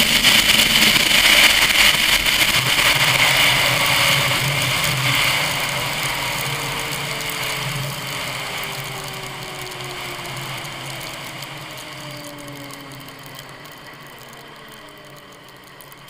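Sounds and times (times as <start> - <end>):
snowmobile engine winding down: 0.0 - 16.0.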